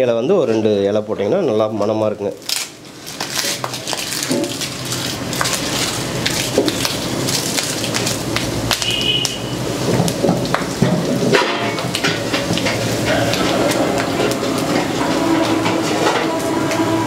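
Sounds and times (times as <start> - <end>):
spices sizzling in hot oil: 3.0 - 17.0.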